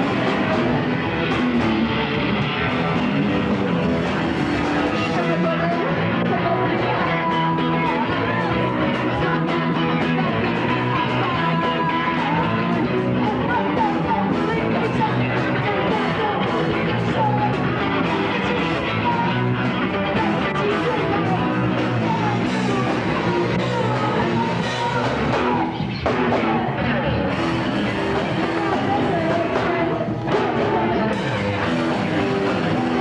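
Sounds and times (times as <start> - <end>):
punk rock music with singing: 0.0 - 33.0.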